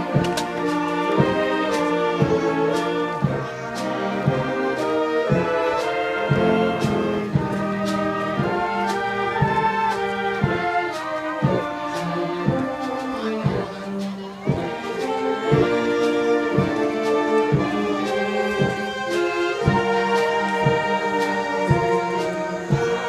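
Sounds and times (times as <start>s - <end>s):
concert band playing a carol: 0.0s - 23.0s.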